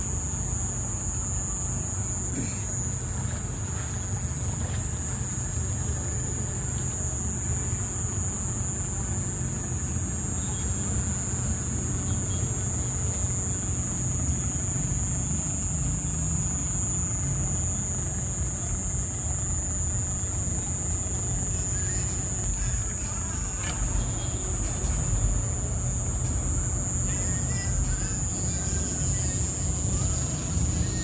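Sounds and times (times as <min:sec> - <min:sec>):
high-pitched whine: 0:00.0 - 0:31.0
outboard motor idling: 0:00.0 - 0:31.0.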